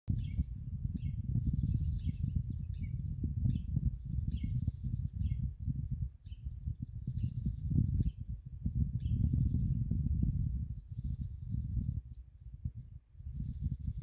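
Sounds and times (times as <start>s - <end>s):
wind rumble on microphone: 0.1s - 14.0s.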